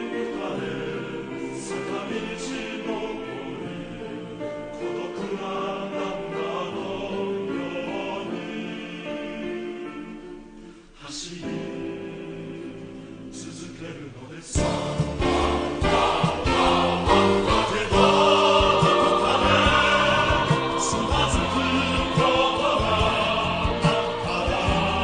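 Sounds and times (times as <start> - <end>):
choir singing held notes: 0.0 - 25.0.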